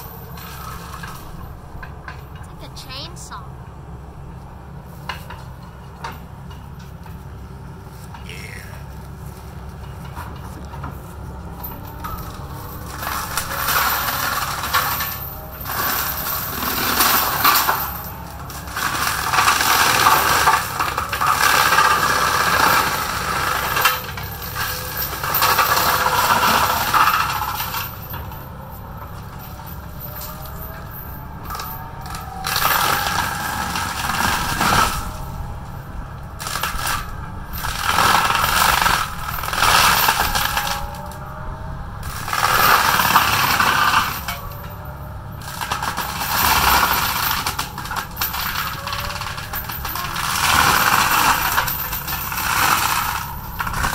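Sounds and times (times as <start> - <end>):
excavator engine running: 0.0 - 53.9
wood crackling and splintering: 9.4 - 41.2, 42.0 - 53.9.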